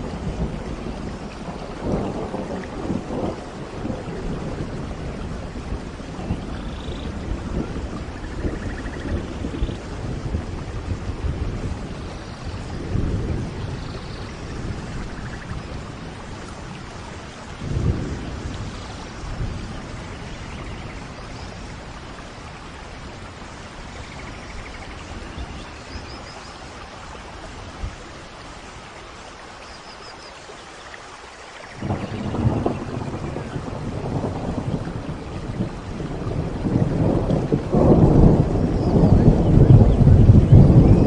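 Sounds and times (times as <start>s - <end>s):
thunder rumbling: 0.0s - 28.4s, 31.8s - 41.0s
steady rain: 0.0s - 41.0s.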